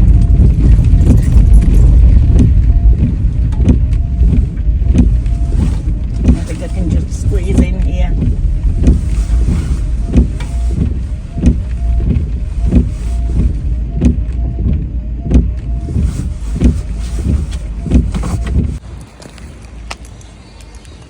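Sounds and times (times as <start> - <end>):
car engine running: 0.0 - 18.8.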